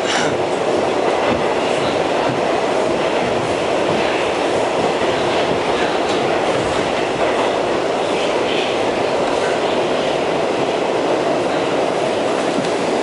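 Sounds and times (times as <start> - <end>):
subway car running noise: 0.0 - 13.0.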